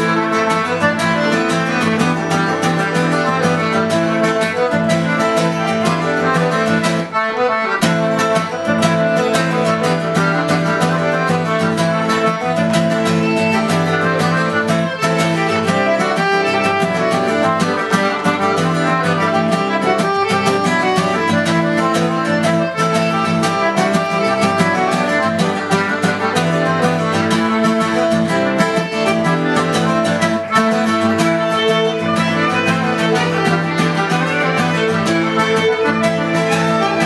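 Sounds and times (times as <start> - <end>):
fiddle playing dance tune: 0.0 - 37.0
strummed acoustic guitar: 0.0 - 37.0.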